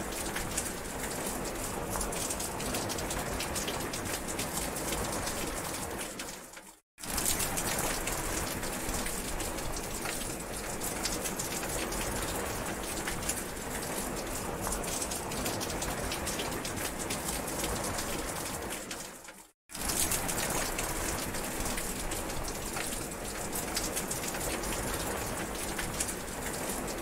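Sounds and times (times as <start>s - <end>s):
close raindrops striking: 0.0s - 27.0s
heavy rain falling: 0.0s - 27.0s.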